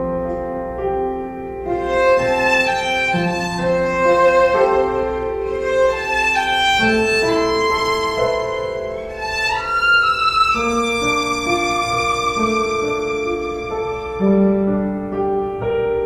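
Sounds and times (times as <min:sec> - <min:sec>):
soft accompaniment: 0:00.0 - 0:16.0
violin melody: 0:01.6 - 0:16.0.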